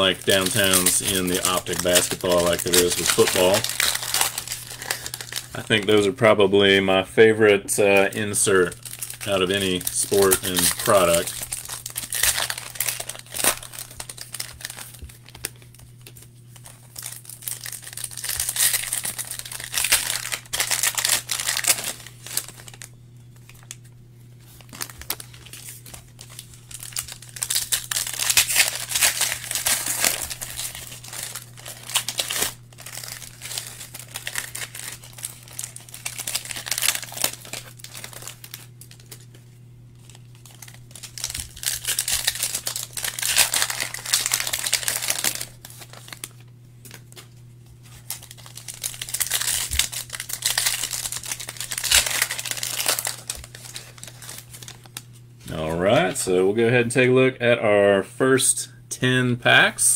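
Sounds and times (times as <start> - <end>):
foil wrappers tearing and crinkling: 0.0 - 6.3, 7.7 - 56.1
steady low hum: 0.0 - 59.9.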